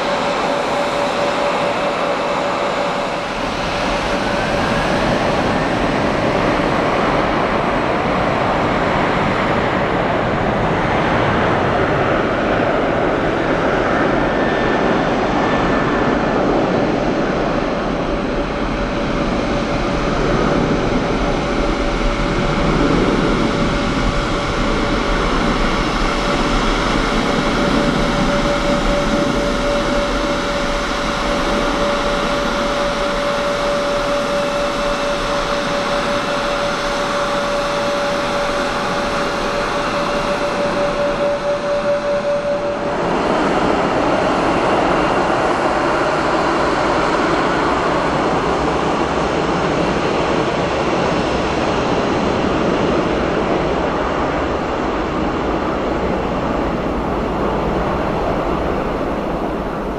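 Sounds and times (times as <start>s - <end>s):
jet engine whine: 0.0s - 59.9s
jet engines at takeoff: 0.0s - 59.9s.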